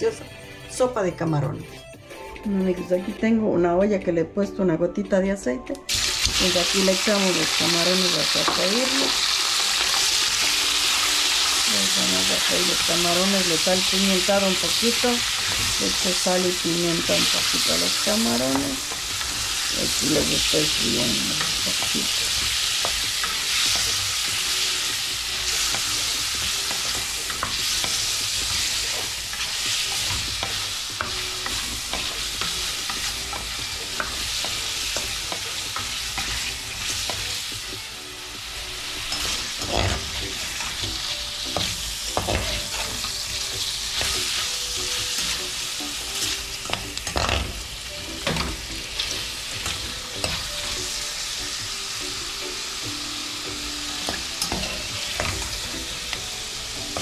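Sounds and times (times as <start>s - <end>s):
shrimp sizzling in oil: 5.9s - 57.0s.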